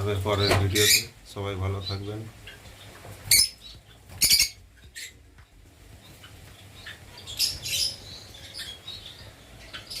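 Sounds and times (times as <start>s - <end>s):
lovebirds chirping: 0.0s - 10.0s.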